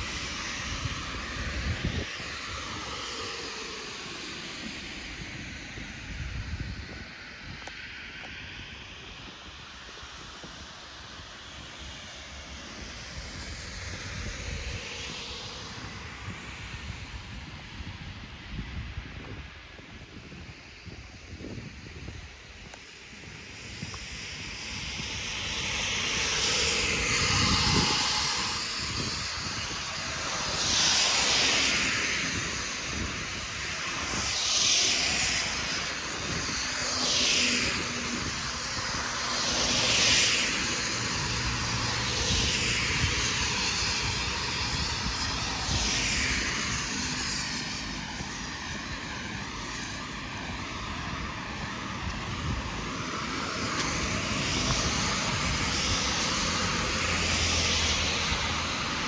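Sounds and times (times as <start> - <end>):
vehicles rushing past: 0.0 - 19.7, 20.6 - 59.0.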